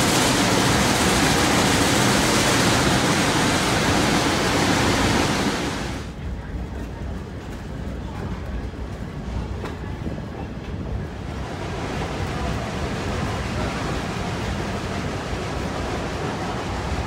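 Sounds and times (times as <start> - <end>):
train ride rumble: 0.0 - 17.0.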